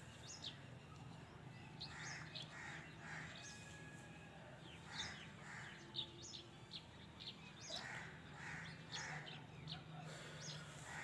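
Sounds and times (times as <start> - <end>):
birds chirping: 0.0 - 3.8, 4.6 - 11.0.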